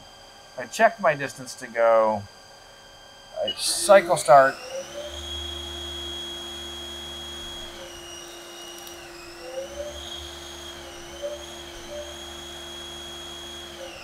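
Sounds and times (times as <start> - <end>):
lathe spindle whine: 0.0 - 14.0.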